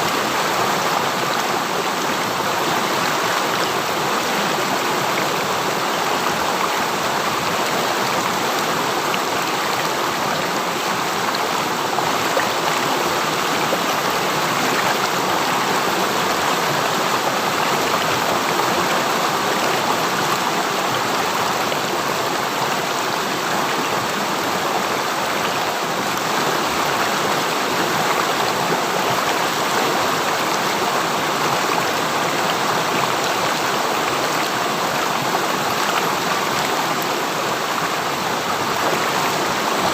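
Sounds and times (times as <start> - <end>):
river stream rushing: 0.0 - 39.9.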